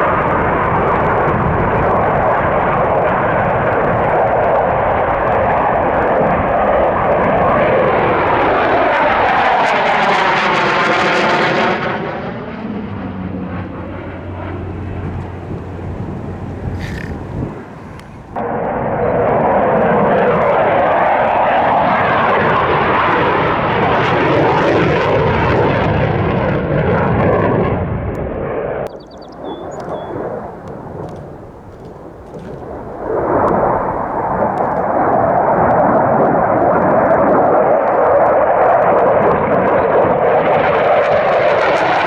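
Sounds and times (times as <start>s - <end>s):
aircraft engine flying past: 0.0s - 42.0s.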